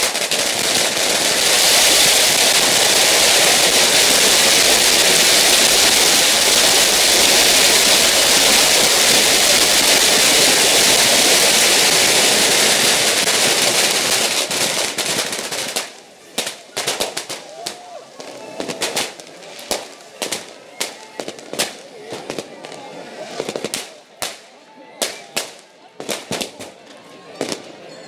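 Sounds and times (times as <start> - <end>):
firecrackers crackling and banging: 0.0 - 27.8.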